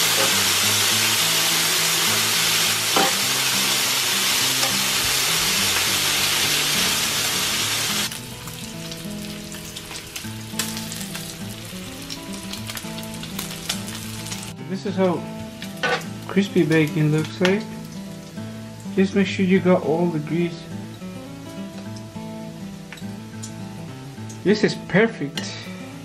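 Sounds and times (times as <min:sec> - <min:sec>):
bacon sizzling on a grill: 0:00.0 - 0:24.4
soft background music: 0:00.0 - 0:26.0.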